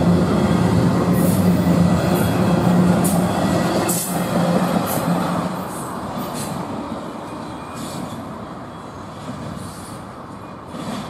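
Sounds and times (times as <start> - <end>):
train cars rumbling on rails: 0.0 - 11.0.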